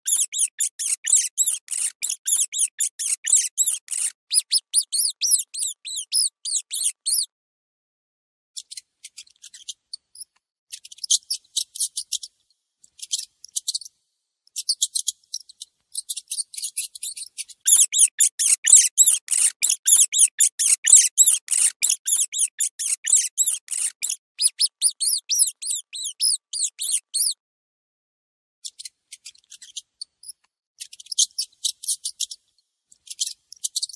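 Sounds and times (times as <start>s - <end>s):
mouse squeaks: 0.0s - 7.3s, 8.6s - 12.3s, 13.0s - 13.9s, 14.6s - 27.4s, 28.6s - 33.9s.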